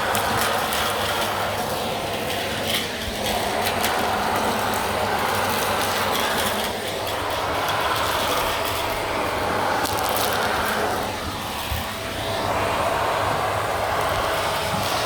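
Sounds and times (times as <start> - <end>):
vacuum cleaner on carpet: 0.0 - 15.0.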